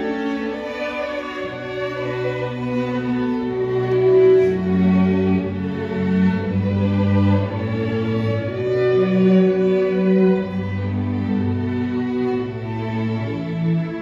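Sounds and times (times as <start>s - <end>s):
cello low sustained line: 0.0s - 14.0s
string quartet playing: 0.0s - 14.0s.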